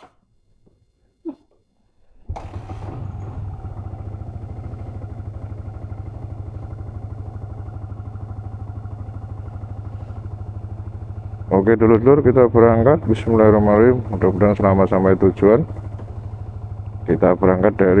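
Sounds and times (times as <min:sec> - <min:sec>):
motorcycle engine starting and idling: 0:02.2 - 0:18.0.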